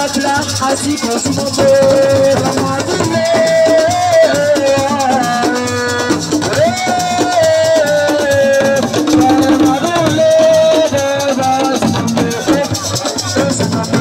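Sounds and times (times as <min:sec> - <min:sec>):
drums: 0:00.0 - 0:14.0
shaker rattling: 0:00.0 - 0:14.0.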